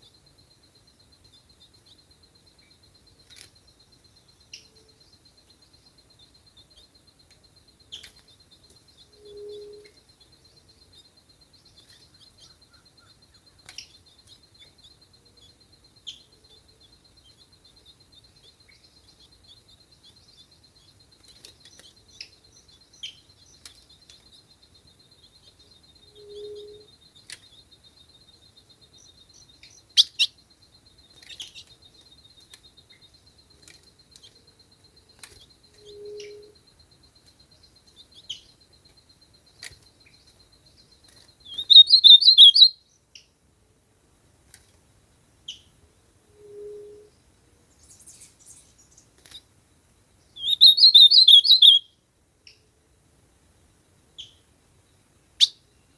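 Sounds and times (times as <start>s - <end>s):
bird chirping: 0.0s - 43.4s, 45.2s - 49.6s, 50.2s - 52.7s, 54.1s - 55.9s.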